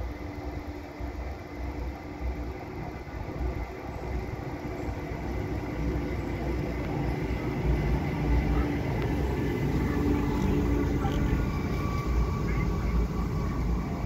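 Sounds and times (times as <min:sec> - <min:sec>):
railcar rumbling past: 0:00.0 - 0:14.0.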